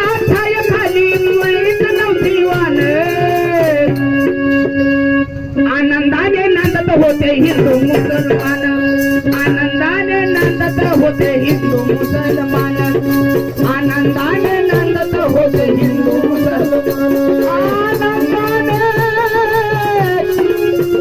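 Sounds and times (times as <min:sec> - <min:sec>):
fast rattling percussion beat: 0:00.0 - 0:05.1, 0:06.6 - 0:21.0.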